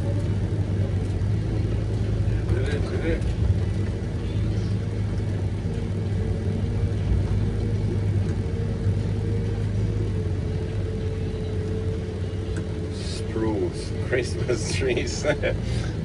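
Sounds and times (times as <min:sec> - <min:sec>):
diesel engine humming under load: 0:00.0 - 0:16.0.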